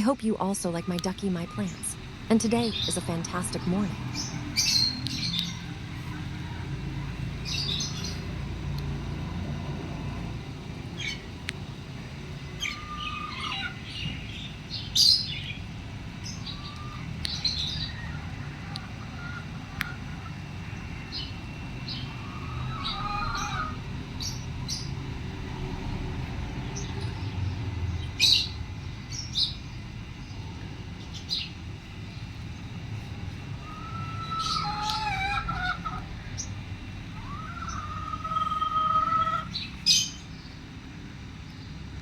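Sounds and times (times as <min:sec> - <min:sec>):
birds chirping: 0:00.0 - 0:42.0
low background rumble: 0:00.0 - 0:42.0.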